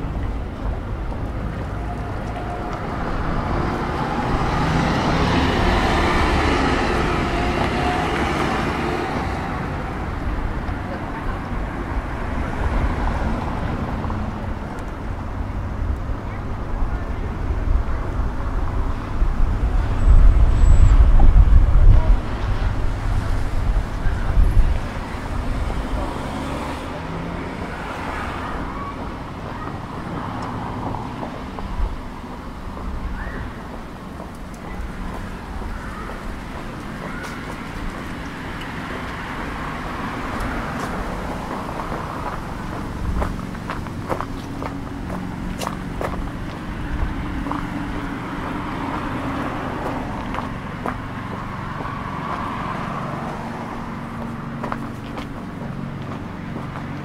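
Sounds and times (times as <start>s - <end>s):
footsteps on pavement: 0.0s - 15.0s, 23.8s - 57.0s
cars going by: 0.0s - 57.0s.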